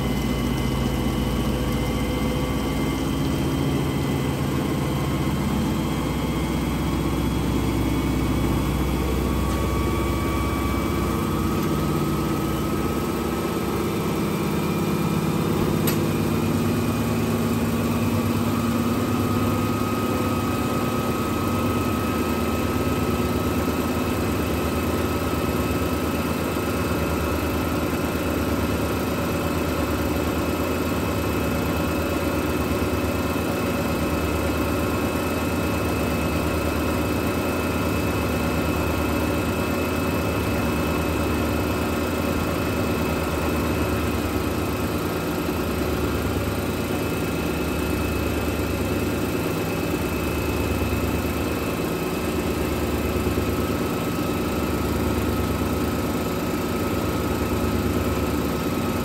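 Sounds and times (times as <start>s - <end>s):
washing machine motor humming: 0.0s - 59.0s.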